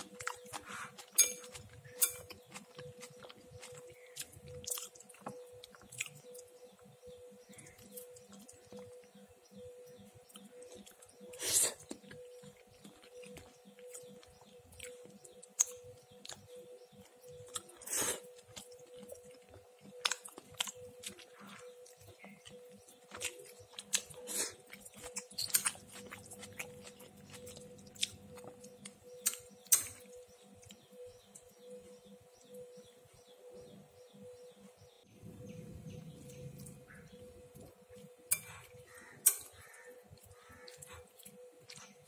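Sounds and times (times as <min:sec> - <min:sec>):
person chewing crunchy food: 0:00.0 - 0:06.9, 0:10.2 - 0:31.6, 0:36.0 - 0:42.0.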